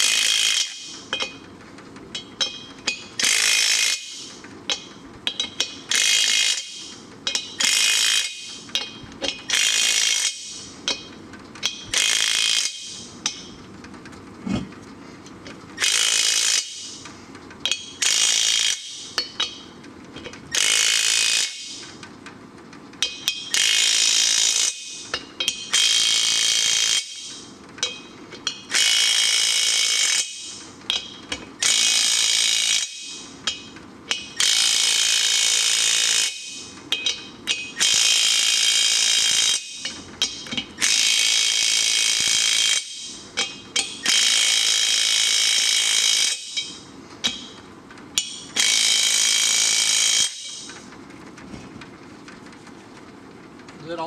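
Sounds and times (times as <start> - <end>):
impact wrench clicks: 0.0 - 1.4, 2.2 - 13.5, 15.8 - 17.0, 17.6 - 19.6, 20.5 - 21.9, 23.0 - 47.6, 48.2 - 50.8
impact wrench hammering: 0.0 - 1.4, 2.2 - 13.5, 15.8 - 17.0, 17.6 - 21.8, 23.0 - 47.6, 48.2 - 50.8.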